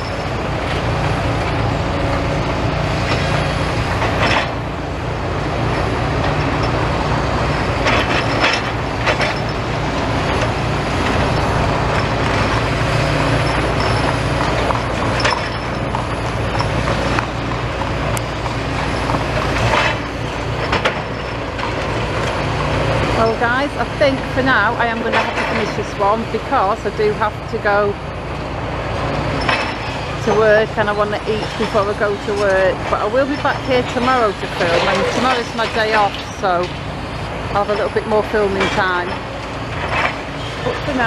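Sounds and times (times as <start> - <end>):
excavator diesel engine: 0.0 - 41.0.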